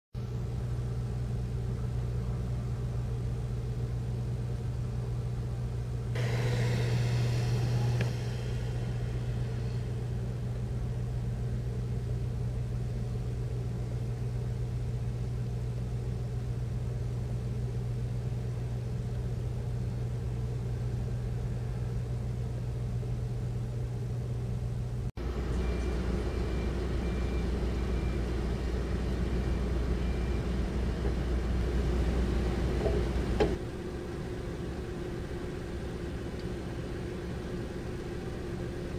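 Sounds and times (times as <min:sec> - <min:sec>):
low engine hum: 0:00.2 - 0:38.9.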